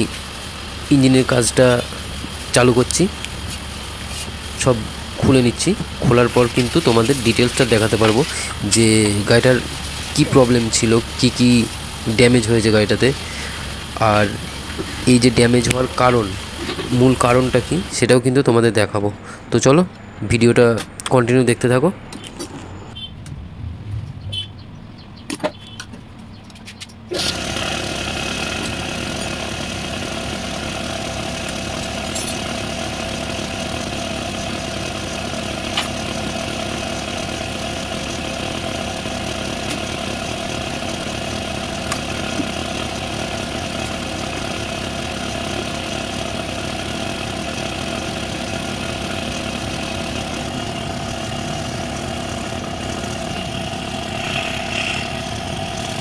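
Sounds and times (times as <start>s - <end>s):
small engine idling: 0.0s - 18.0s, 27.1s - 56.0s.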